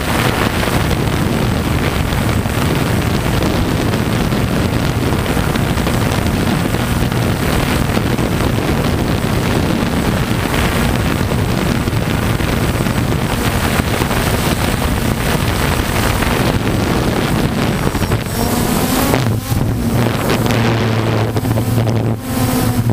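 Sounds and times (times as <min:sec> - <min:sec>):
drone propellers whirring: 0:00.0 - 0:22.9
wind buffeting microphone: 0:00.0 - 0:22.9.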